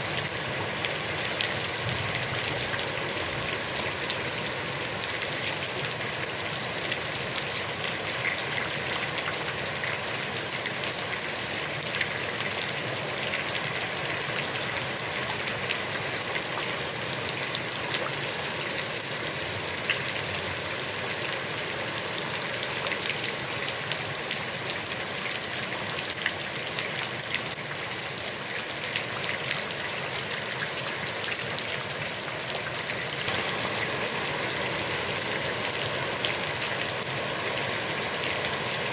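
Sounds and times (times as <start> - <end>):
heavy rain on pond water: 0.0 - 38.9.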